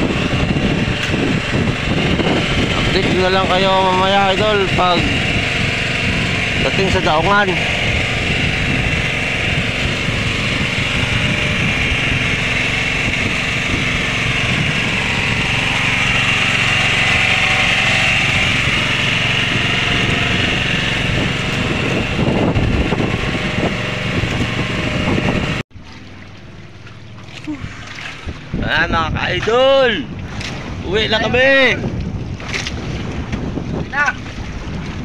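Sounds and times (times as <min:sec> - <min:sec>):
boat engines running: 0:00.0 - 0:35.0
water rushing past hull: 0:00.0 - 0:35.0.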